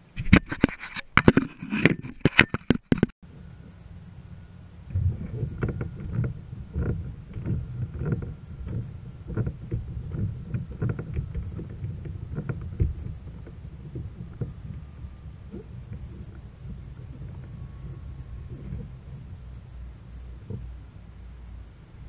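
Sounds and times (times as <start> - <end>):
low rumble: 3.2 - 22.0.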